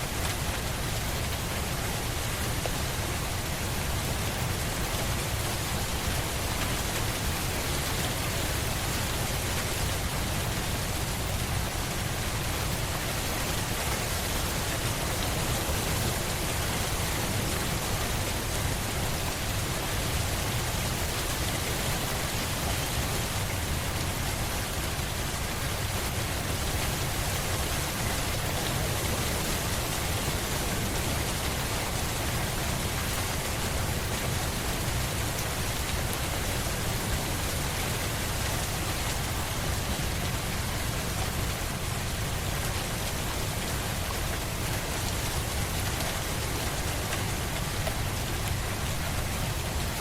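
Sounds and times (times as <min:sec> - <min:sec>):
rain falling on a surface: 0:00.0 - 0:50.0.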